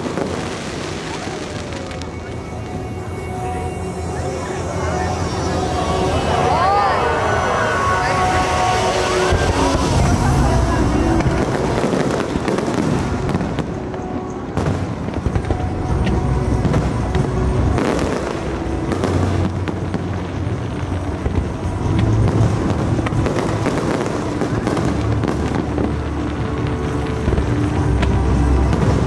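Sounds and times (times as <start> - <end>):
fireworks crackling: 0.0 - 29.0
sharp fireworks bangs: 0.0 - 29.0.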